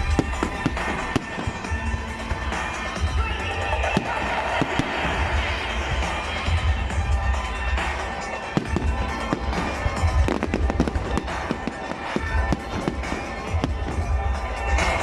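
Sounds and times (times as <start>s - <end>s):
fireworks bangs and crackles: 0.0s - 15.0s
music with heavy bass: 0.0s - 15.0s.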